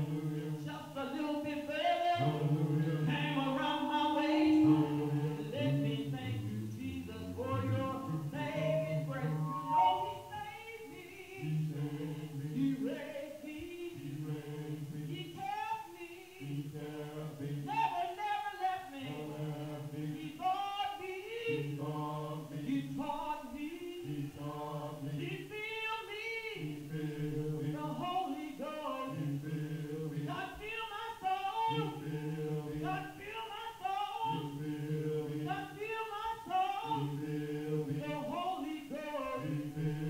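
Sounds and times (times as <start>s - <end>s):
voices singing hymn a cappella: 0.0s - 40.0s.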